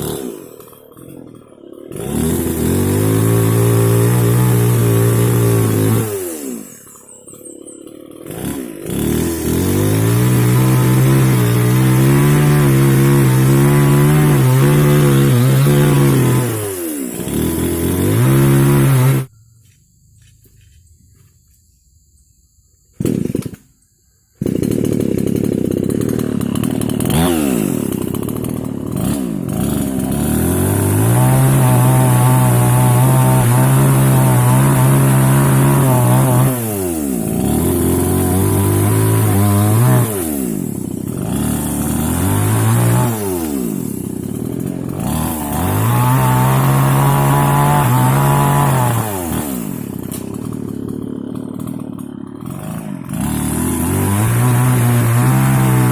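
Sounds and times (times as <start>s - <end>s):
chainsaw revving: 0.0s - 19.3s, 22.9s - 23.7s, 24.4s - 55.9s.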